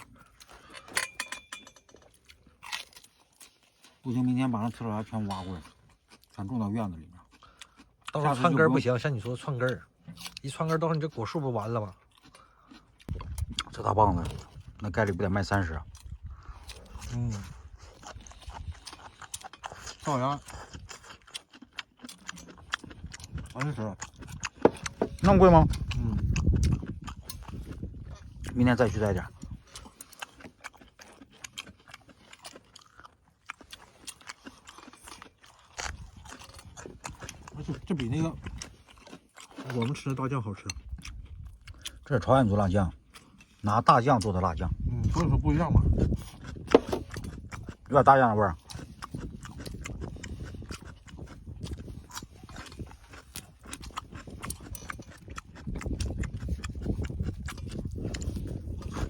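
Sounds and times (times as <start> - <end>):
chewing crisp greens: 0.0 - 59.0.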